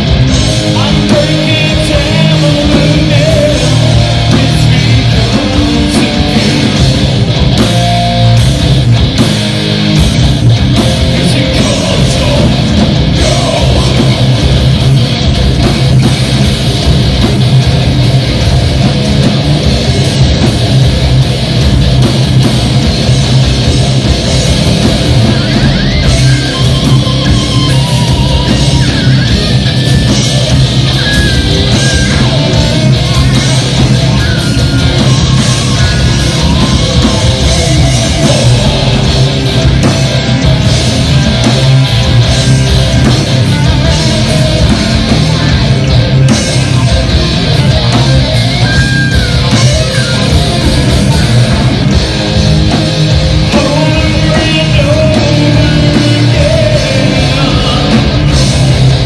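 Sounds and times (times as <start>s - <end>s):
distorted electric guitars: 0.0s - 59.0s
drum kit: 0.0s - 59.0s.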